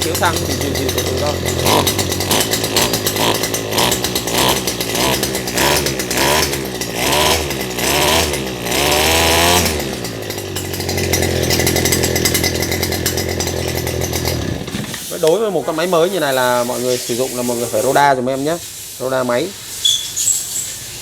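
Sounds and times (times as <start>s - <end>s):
brush cutter engine revving: 0.0s - 18.2s.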